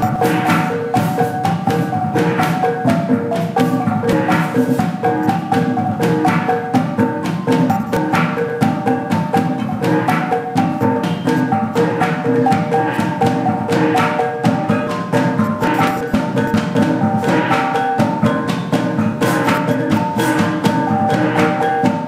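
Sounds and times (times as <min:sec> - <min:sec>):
percussion-led dance music: 0:00.0 - 0:22.0.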